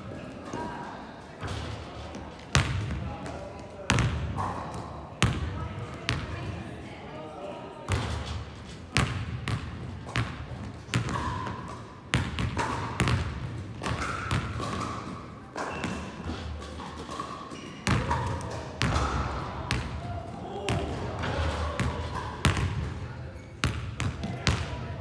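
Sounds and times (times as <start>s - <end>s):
basketballs bouncing in a hall: 0.0s - 6.8s, 7.8s - 25.0s.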